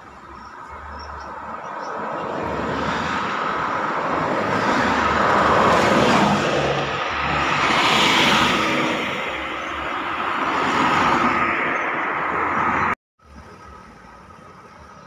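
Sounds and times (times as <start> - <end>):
bus engine and tyre noise: 0.0 - 15.0.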